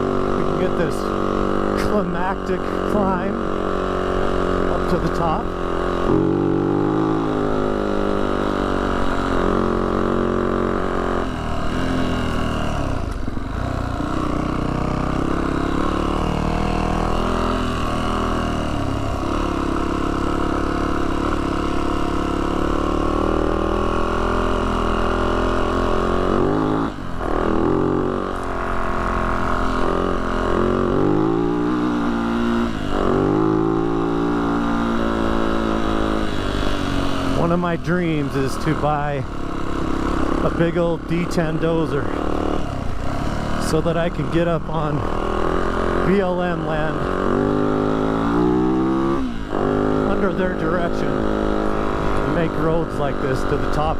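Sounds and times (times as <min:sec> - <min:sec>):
dirt bike engine climbing: 0:00.0 - 0:53.9.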